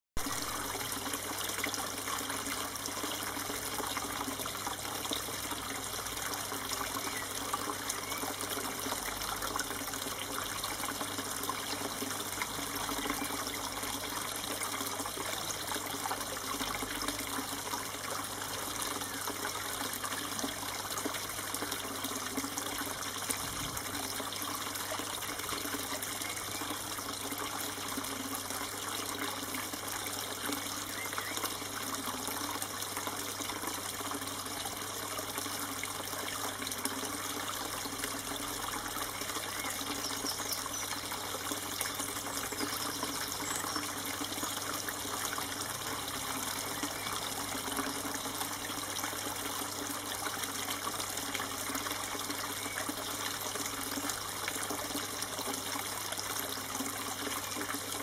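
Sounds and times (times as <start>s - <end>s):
running water: 0.2s - 58.0s.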